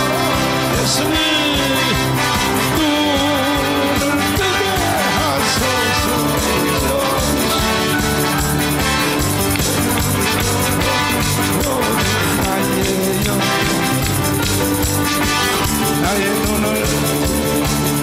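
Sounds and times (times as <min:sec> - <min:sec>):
drum kit: 0:00.0 - 0:18.0
live worship band music: 0:00.0 - 0:18.0.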